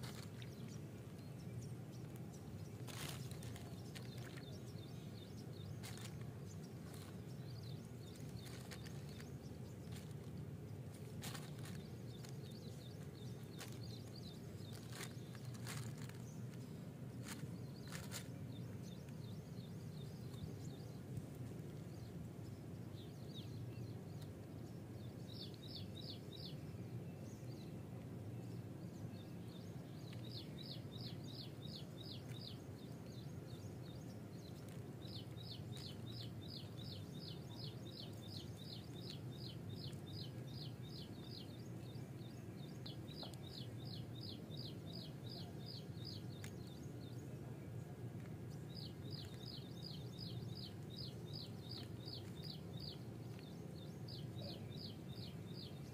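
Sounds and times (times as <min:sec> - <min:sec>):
small bird chirping: 0:00.0 - 0:27.8, 0:29.0 - 0:55.9
low outdoor rumble: 0:00.0 - 0:55.9.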